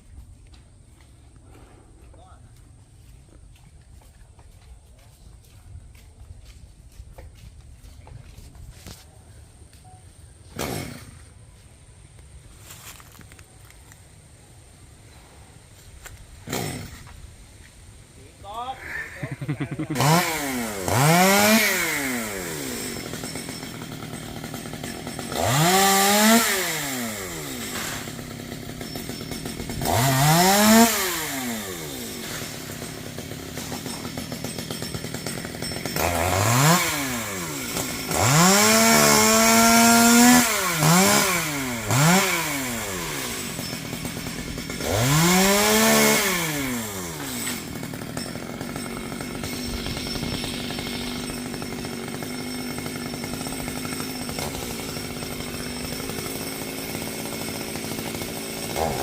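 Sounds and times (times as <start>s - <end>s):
chainsaw idling and revving: 9.8s - 17.3s, 18.4s - 59.0s.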